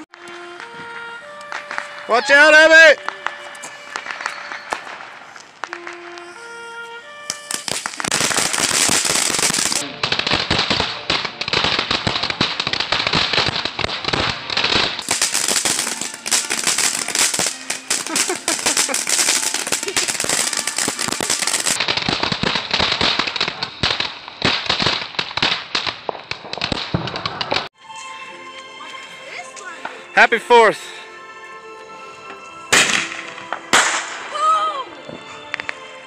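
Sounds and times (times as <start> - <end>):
fireworks crackling: 0.0 - 28.1, 31.7 - 36.0.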